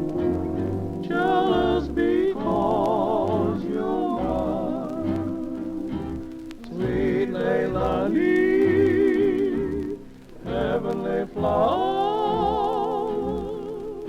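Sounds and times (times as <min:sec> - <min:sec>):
bass notes pulsing: 0:00.0 - 0:13.6
vibrato melody notes: 0:00.0 - 0:14.0.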